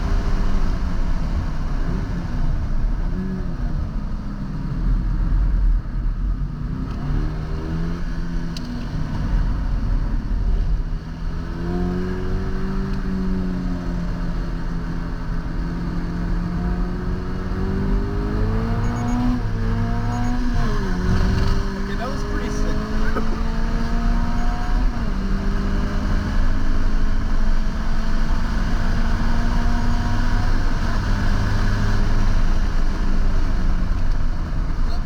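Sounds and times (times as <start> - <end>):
car engine pulling hard: 0.0 - 35.0.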